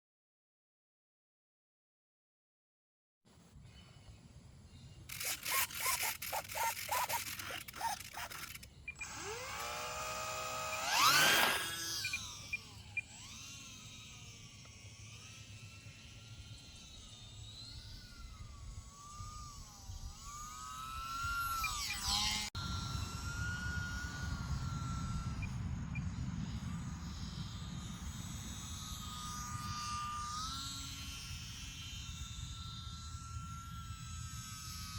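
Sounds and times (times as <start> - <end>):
model plane motor whine: 3.8 - 34.9.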